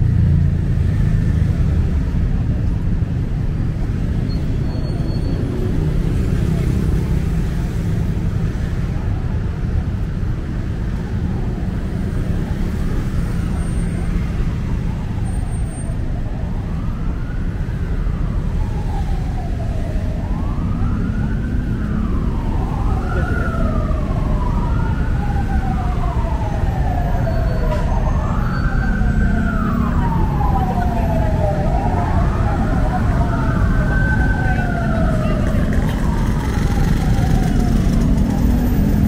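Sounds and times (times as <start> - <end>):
heavy road traffic rumbling: 0.0 - 39.0
emergency siren wailing: 2.4 - 39.0.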